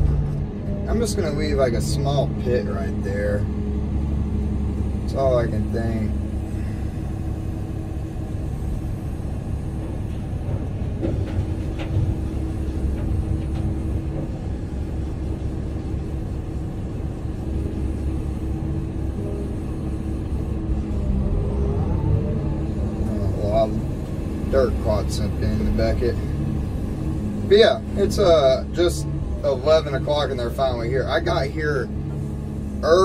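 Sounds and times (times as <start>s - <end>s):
excavator diesel engine rumbling: 0.0s - 33.0s.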